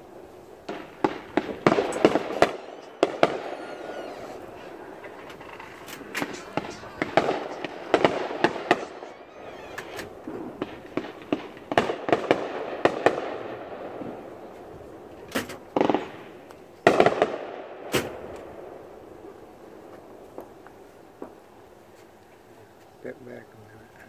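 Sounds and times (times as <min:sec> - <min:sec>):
fireworks bangs and crackling: 0:00.0 - 0:21.6.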